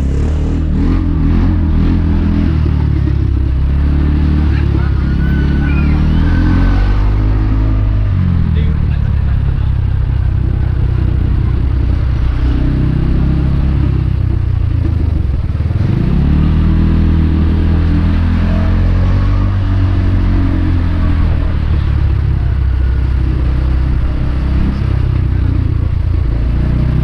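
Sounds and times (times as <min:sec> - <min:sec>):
motorbike engine: 0:00.0 - 0:27.0.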